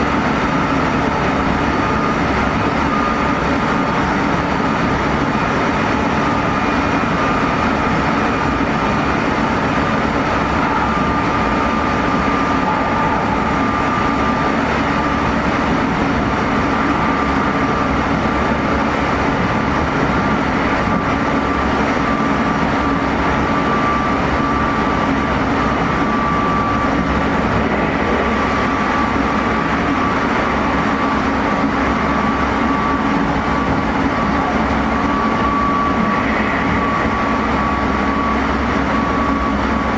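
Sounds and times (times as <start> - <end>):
high-pitched motor whine: 0.0 - 39.9
wheel-on-rail rumble: 0.0 - 39.9.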